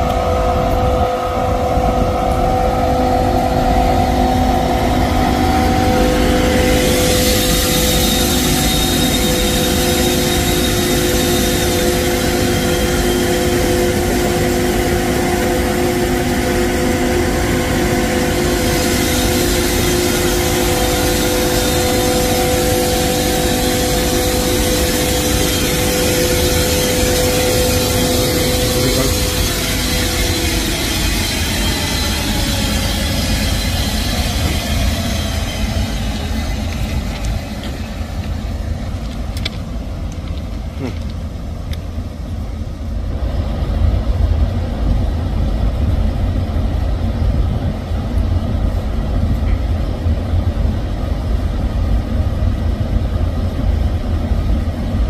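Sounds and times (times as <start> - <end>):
electric locomotive humming: 0.0 - 55.0.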